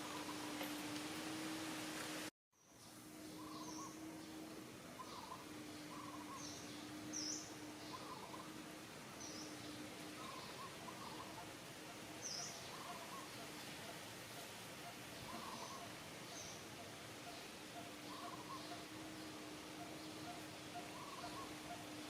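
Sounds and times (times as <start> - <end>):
faint hum: 0.0 - 22.0
outdoor background hiss: 0.0 - 22.0
lower bird calls: 2.6 - 22.0.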